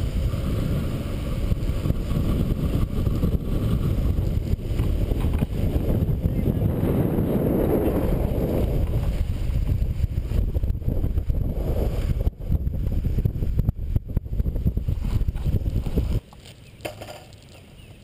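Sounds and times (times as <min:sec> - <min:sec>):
wind buffeting microphone: 0:00.0 - 0:16.2
longboard wheels rumbling on asphalt: 0:00.0 - 0:18.0.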